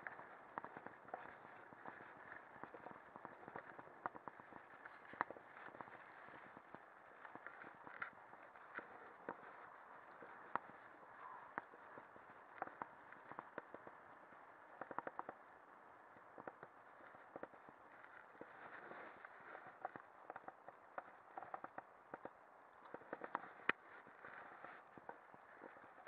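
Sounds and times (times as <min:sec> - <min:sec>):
bike clicks and rattles: 0:00.0 - 0:15.6, 0:16.2 - 0:26.0.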